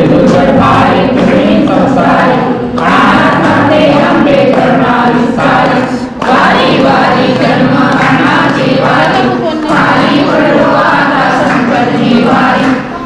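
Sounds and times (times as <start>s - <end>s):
group singing devotional song: 0.0s - 13.0s.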